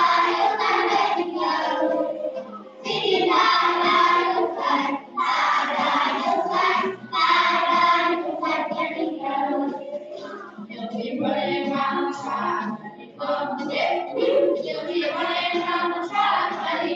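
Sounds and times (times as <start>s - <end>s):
children singing together: 0.0s - 16.9s.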